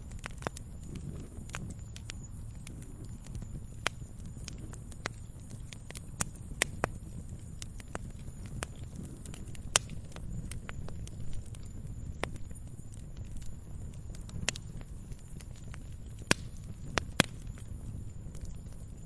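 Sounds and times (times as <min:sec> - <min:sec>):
campfire crackling and popping: 0:00.0 - 0:19.0
low steady rumble: 0:00.0 - 0:19.0.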